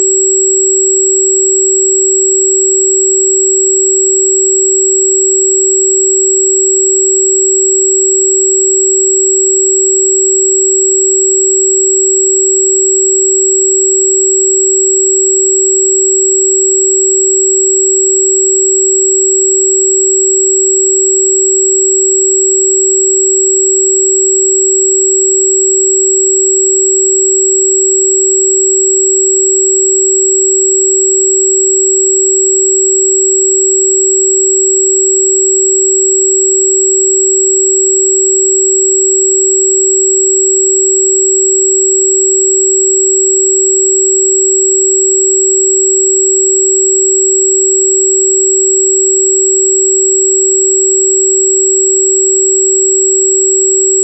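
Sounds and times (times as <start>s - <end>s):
steady electronic sine tone: 0.0s - 54.0s.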